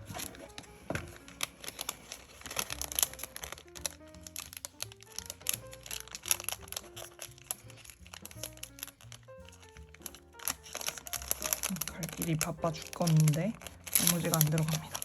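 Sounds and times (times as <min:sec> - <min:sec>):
plastic wrapping crinkling: 0:00.0 - 0:15.0
quiet background music: 0:00.0 - 0:15.0.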